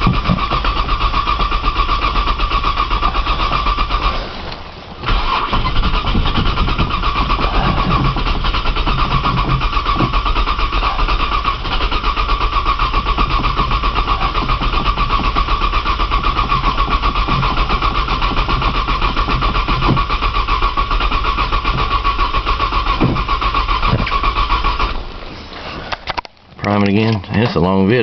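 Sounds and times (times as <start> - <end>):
starter motor cranking engine: 0.0 - 27.2.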